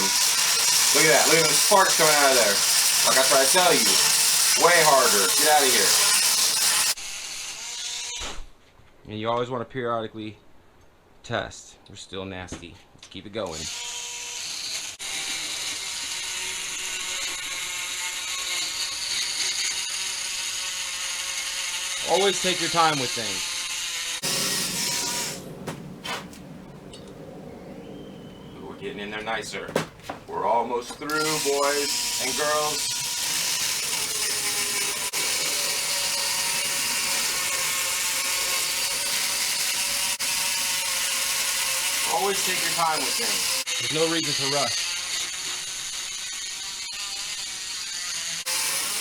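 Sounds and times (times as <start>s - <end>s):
rotary tool grinding steel: 0.0s - 8.2s, 13.6s - 27.5s, 30.5s - 49.0s.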